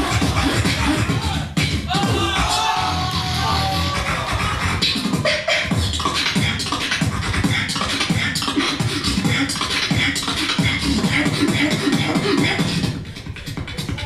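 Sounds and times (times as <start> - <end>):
beatboxing: 0.0 - 14.0.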